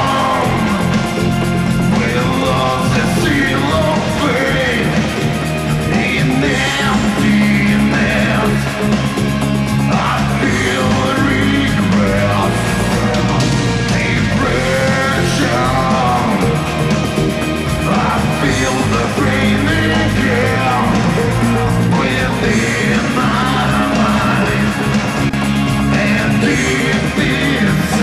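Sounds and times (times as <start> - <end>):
bass: 0.0 - 28.0
drums: 0.0 - 28.0
electric guitars: 0.0 - 28.0
person singing: 0.0 - 28.0.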